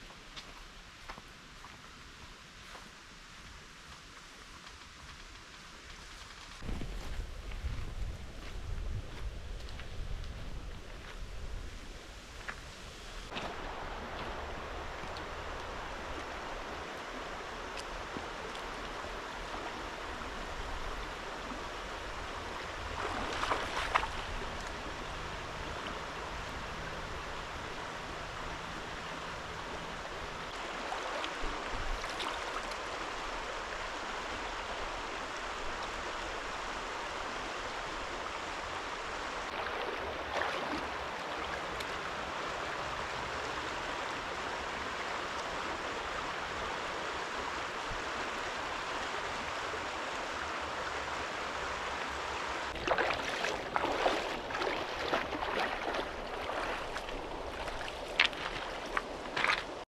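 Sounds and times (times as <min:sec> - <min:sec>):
river water rushing: 0:11.9 - 0:59.9.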